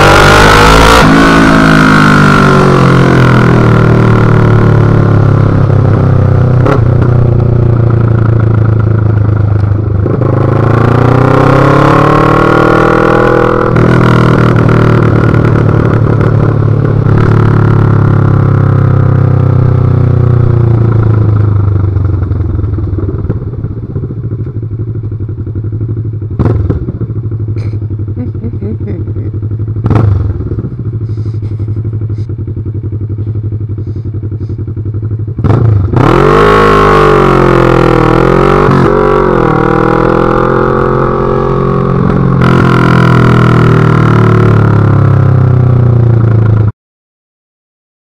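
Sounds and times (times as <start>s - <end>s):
motorcycle engine running loud: 0.0s - 46.7s.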